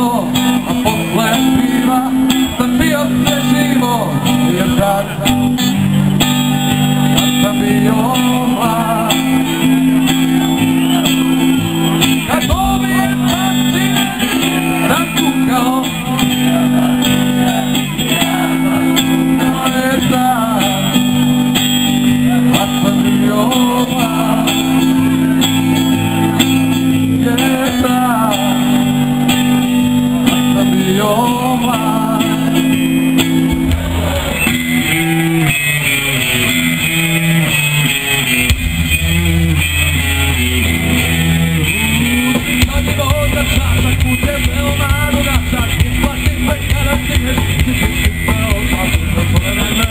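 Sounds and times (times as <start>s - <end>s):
man singing: 0.0s - 5.8s, 6.8s - 35.5s, 41.6s - 49.9s
live rock band playing: 0.0s - 49.9s.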